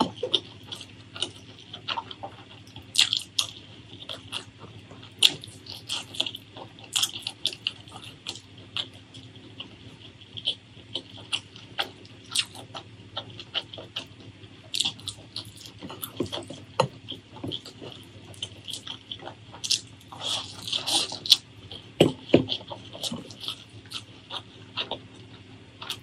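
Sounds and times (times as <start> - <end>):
fingers mixing rice on plate: 0.0 - 26.0
wet chewing with mouth clicks: 0.0 - 26.0.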